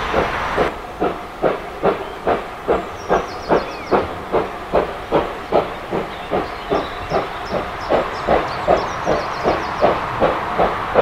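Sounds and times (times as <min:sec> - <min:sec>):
steam hissing: 0:00.0 - 0:11.0
steam locomotive exhaust chuffs: 0:00.0 - 0:11.0.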